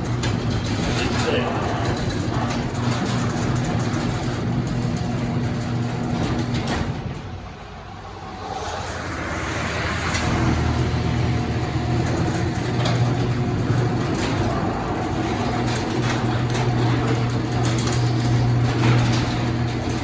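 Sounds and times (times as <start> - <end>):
chain and roller rattles: 0.0 - 8.1, 10.0 - 20.0
garage door opener motor humming: 0.0 - 20.0.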